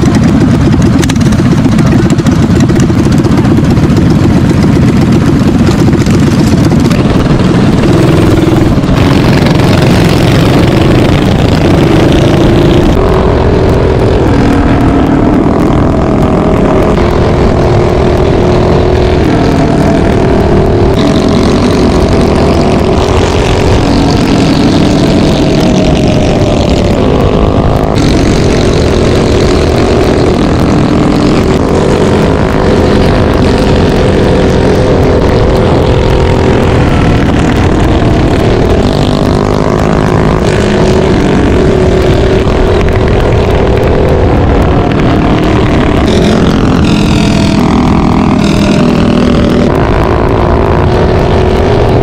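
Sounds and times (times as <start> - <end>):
minibike engines running hard: 0.0 - 52.0
wind noise rushing: 0.0 - 52.0.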